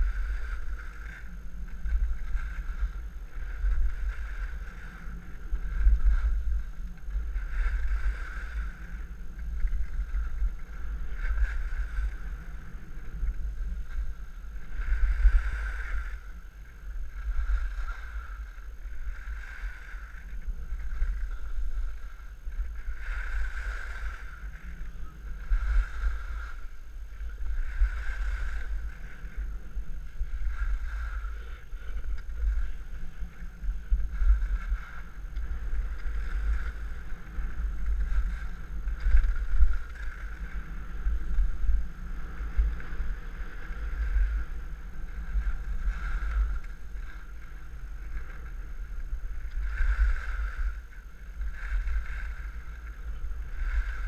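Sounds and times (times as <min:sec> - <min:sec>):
skis scraping packed snow: 0:00.0 - 0:54.0
wind buffeting microphone: 0:00.0 - 0:54.0.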